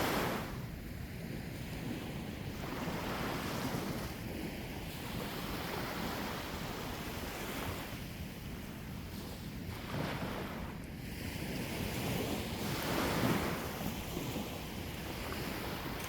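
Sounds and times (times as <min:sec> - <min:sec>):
sea waves washing in: 0:00.0 - 0:16.0
wind rumbling on microphone: 0:00.0 - 0:16.0.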